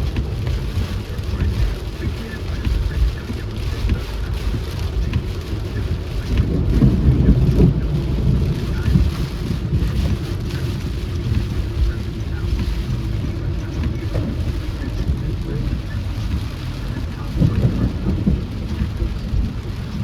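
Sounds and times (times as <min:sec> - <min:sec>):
rain and road noise in car: 0:00.0 - 0:20.0.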